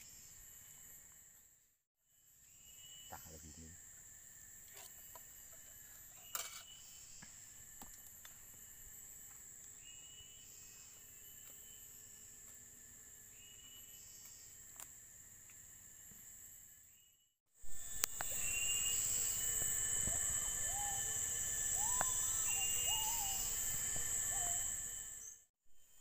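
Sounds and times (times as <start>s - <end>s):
short insect or bird calls: 0.0s - 26.0s
high-pitched insect drone: 2.2s - 17.1s, 17.7s - 26.0s.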